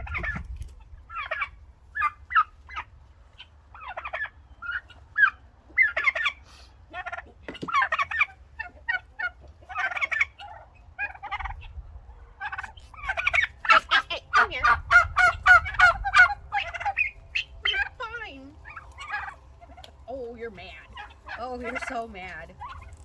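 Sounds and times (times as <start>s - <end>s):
turkey hens calling: 0.0s - 23.0s.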